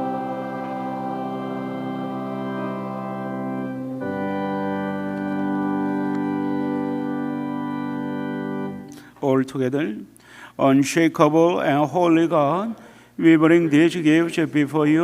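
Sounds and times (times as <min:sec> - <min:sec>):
church organ chords: 0:00.0 - 0:10.0, 0:11.1 - 0:15.0.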